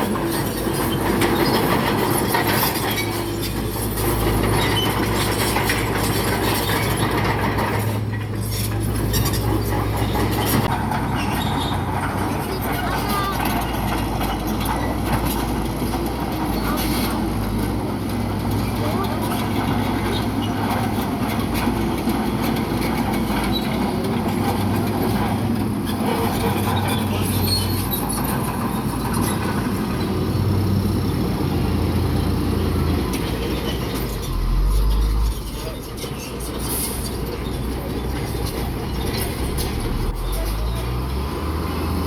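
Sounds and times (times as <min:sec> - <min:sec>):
bulldozer diesel engine: 0:00.0 - 0:42.0
steel tracks grinding and clanking: 0:00.0 - 0:42.0.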